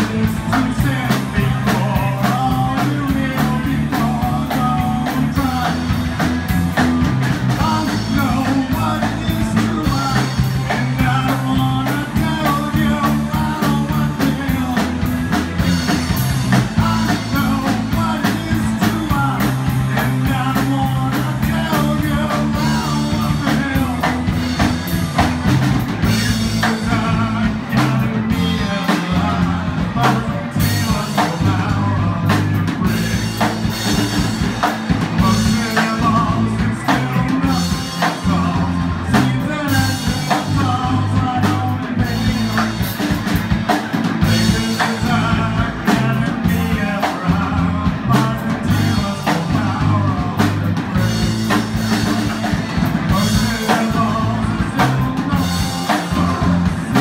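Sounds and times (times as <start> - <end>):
person singing: 0.0 - 6.3, 7.4 - 57.0
live rock band playing: 0.0 - 57.0.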